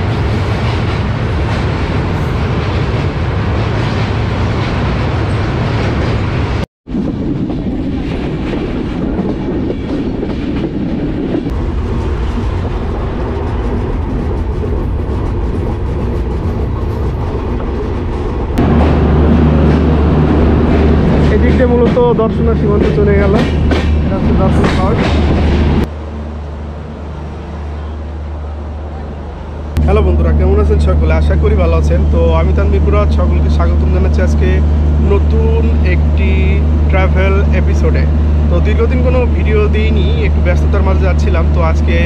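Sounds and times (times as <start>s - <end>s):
train wheels rumbling on rails: 0.0s - 26.1s, 27.8s - 42.0s.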